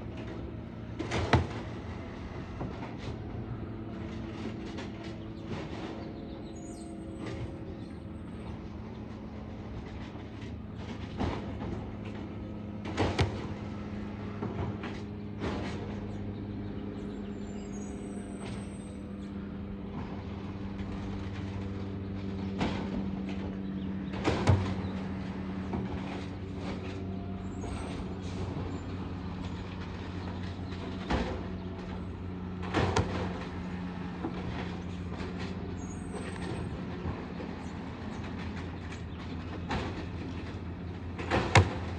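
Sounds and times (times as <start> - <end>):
garbage truck diesel engine: 0.0 - 41.9.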